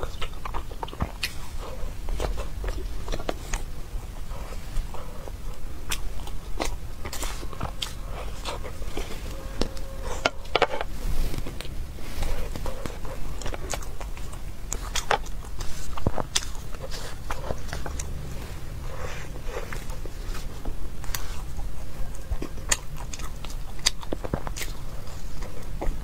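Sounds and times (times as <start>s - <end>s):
person chewing pastry: 0.0s - 26.0s.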